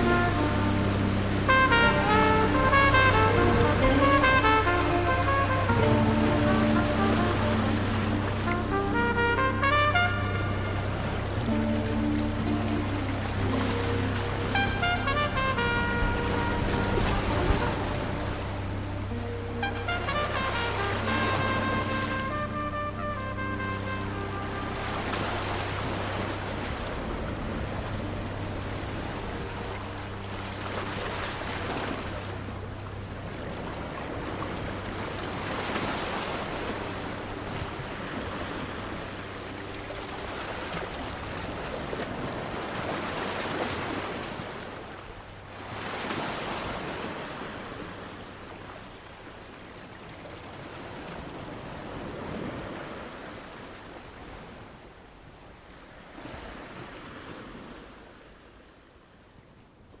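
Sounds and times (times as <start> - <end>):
ocean surf breaking: 0.0 - 48.9.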